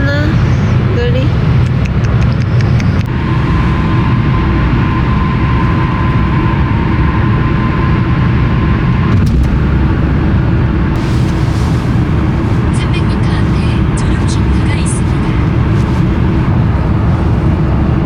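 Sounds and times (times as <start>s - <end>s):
road and engine rumble in car: 0.0s - 18.0s
thin steady whine: 0.0s - 18.0s.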